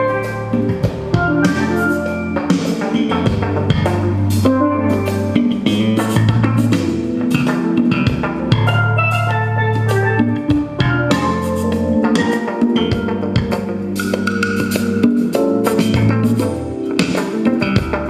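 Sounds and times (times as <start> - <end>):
deep bass notes: 0.0 - 18.0
drums: 0.0 - 18.0
music through pa speakers: 0.0 - 18.0.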